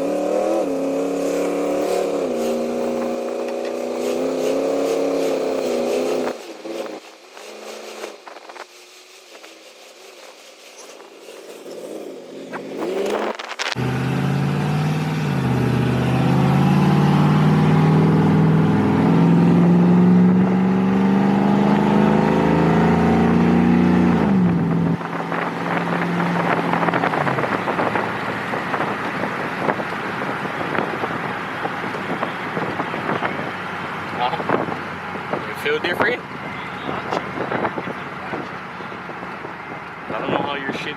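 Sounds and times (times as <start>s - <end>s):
truck engine accelerating hard: 0.0s - 8.5s, 12.6s - 40.9s.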